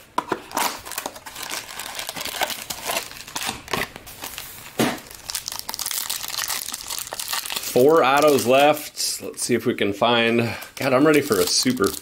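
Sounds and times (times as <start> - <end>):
foil wrappers crinkling: 0.4 - 9.0, 10.4 - 12.0.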